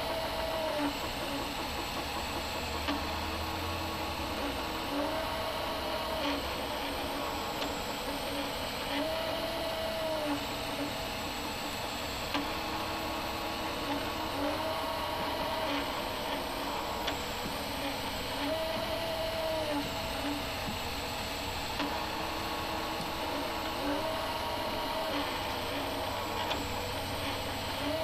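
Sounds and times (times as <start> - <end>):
stepper motors whining: 0.0 - 28.0.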